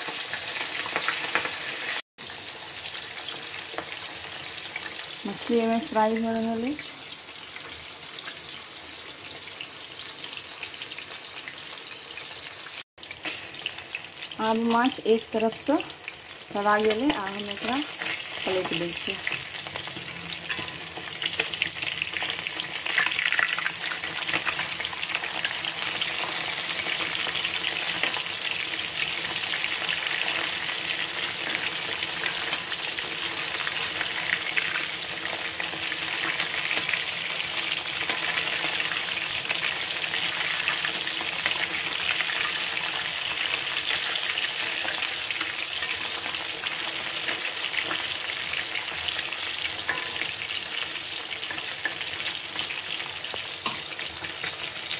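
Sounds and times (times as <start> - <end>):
fish sizzling in hot oil: 0.0 - 54.9.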